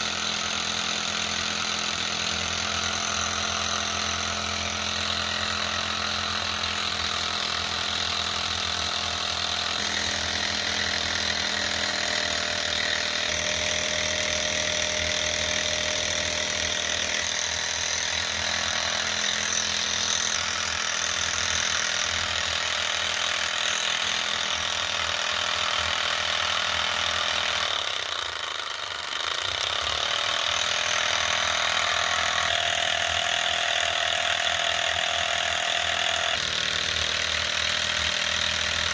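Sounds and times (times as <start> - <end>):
stirling engine mechanical rattle: 0.0 - 38.9.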